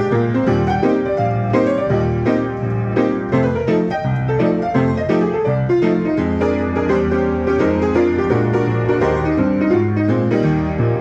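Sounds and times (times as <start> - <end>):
player piano playing: 0.0 - 11.0.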